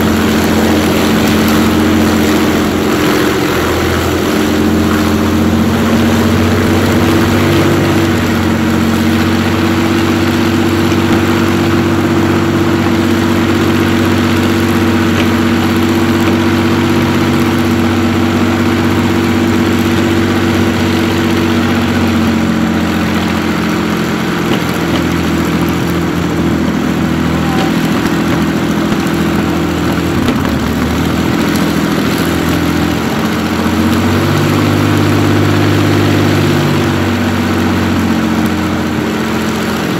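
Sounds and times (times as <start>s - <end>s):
propeller aircraft engines idling: 0.0s - 39.9s.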